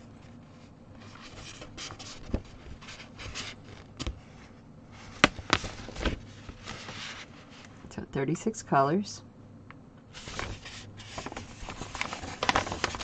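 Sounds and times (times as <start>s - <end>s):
paper rustling: 0.0s - 7.6s, 10.1s - 13.0s.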